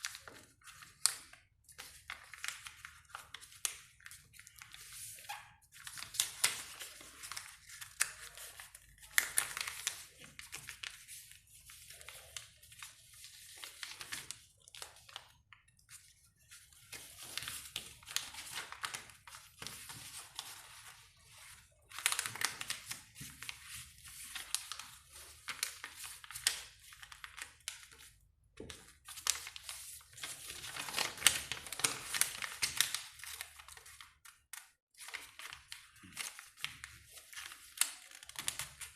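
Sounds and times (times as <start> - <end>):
paper folds crackling: 0.0 - 28.1, 28.8 - 34.0, 35.0 - 38.9
paper rustling and crinkling: 0.0 - 38.9.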